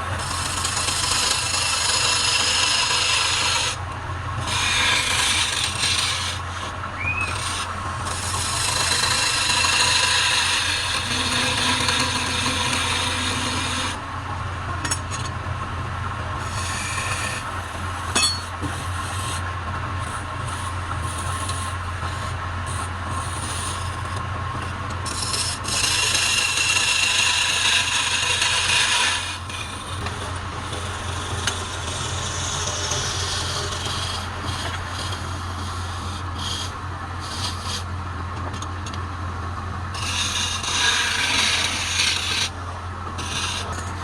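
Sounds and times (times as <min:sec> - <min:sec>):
wood lathe motor hum: 0:00.0 - 0:14.4, 0:16.4 - 0:37.9, 0:39.8 - 0:44.0
rasping scraping on wood: 0:00.1 - 0:03.8, 0:04.4 - 0:14.0, 0:16.4 - 0:19.4, 0:20.0 - 0:37.9, 0:40.0 - 0:42.6, 0:43.2 - 0:44.0.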